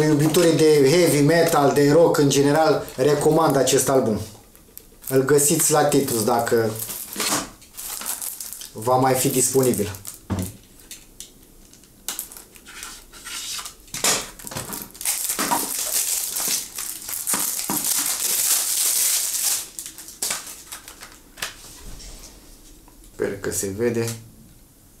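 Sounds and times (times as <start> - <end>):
wrapping crinkling: 0.0 - 21.6.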